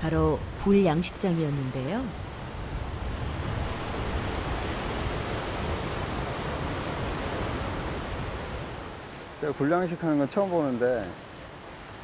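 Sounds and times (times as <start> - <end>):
sea surf breaking on shore: 0.1 - 12.0.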